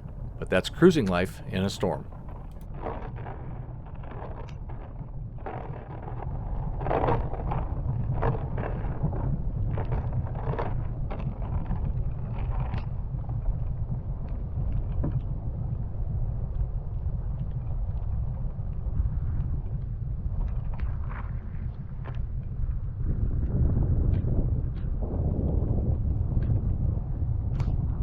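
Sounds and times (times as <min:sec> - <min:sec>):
storm wind buffeting microphone: 0:02.8 - 0:28.0.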